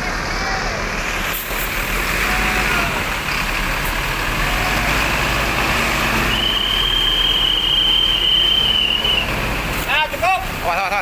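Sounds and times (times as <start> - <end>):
motorcycle and car engines: 0.0 - 11.0
tyres hissing on wet road: 0.0 - 11.0.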